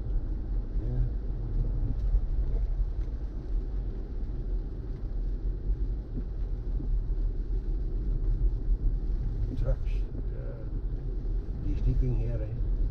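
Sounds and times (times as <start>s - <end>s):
tyre and road noise in car: 0.0s - 12.9s.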